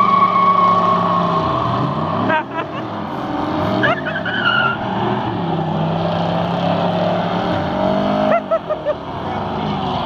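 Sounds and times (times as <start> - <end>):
car engine revving high: 0.0 - 10.0.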